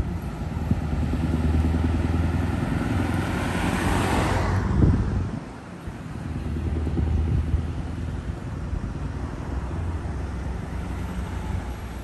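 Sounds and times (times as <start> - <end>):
vehicle engine low rumble: 0.0 - 4.0, 4.6 - 12.0
car passing by: 0.0 - 12.0.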